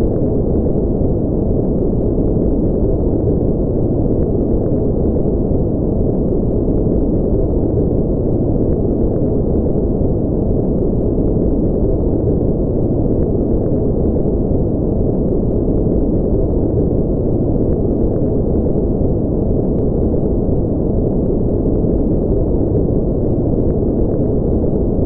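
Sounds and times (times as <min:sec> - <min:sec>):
deep muffled white noise: 0:00.0 - 0:25.0.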